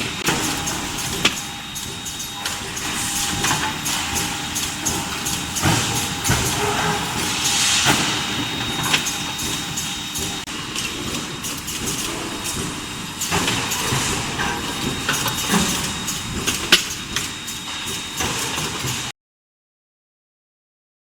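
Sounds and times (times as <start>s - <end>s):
steady machine noise: 0.0s - 19.1s.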